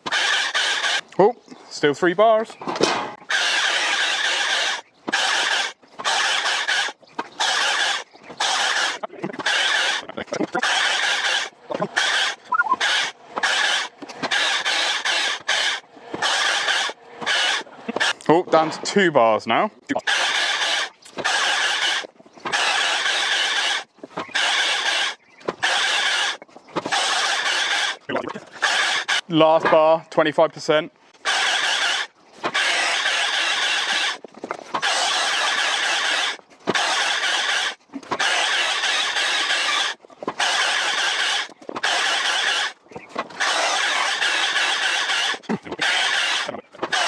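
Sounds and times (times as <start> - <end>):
chainsaw cutting logs: 0.0 - 1.2, 2.8 - 18.4, 19.9 - 30.0, 31.1 - 47.0.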